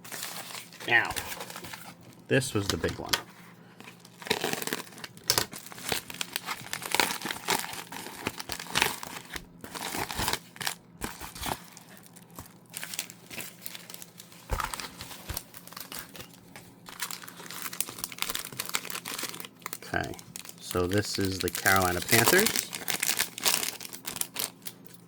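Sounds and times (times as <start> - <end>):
packaging crinkling and tearing: 0.0 - 3.2, 3.8 - 25.0.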